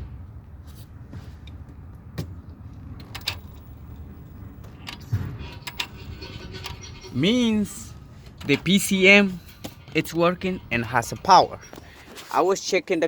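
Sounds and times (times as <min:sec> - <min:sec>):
steady low rumble: 0:00.0 - 0:12.2.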